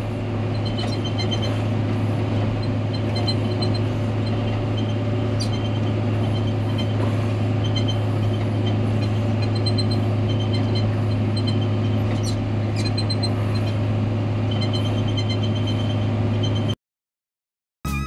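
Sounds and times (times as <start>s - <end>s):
diesel engine running: 0.0s - 16.8s
faint high squeaks: 0.5s - 1.7s, 2.6s - 13.8s, 14.5s - 16.8s.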